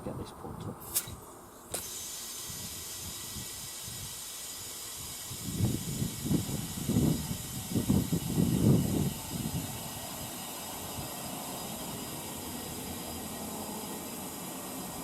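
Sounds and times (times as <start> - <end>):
compressed air hissing: 0.8 - 15.0.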